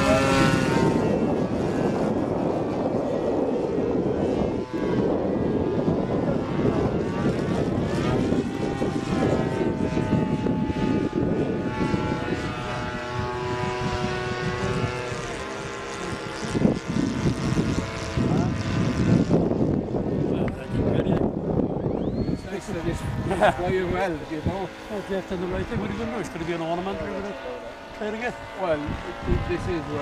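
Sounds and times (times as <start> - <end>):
model plane engine droning: 0.0 - 30.0.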